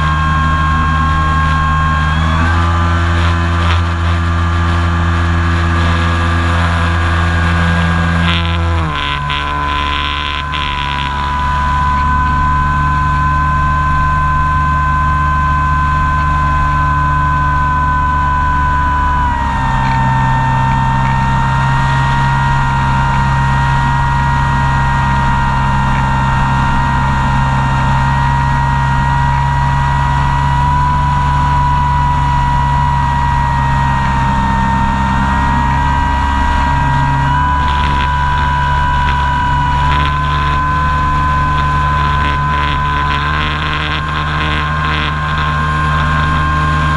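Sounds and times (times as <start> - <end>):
model airplane motor whining: 0.0 - 46.9.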